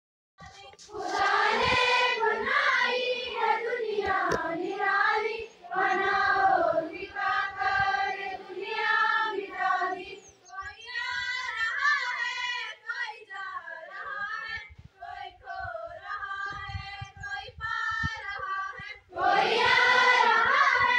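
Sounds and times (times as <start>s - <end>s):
girls singing in chorus: 0.6s - 20.9s.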